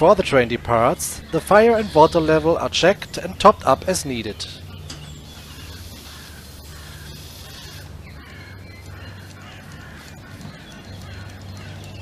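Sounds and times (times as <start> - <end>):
birds calling: 0.0 - 12.0
steady low hum: 0.0 - 12.0.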